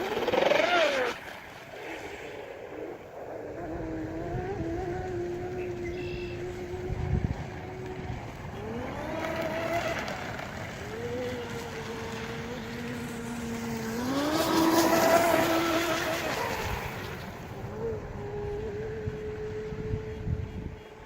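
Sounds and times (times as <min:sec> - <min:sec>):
electric motor whining: 0:03.6 - 0:20.8.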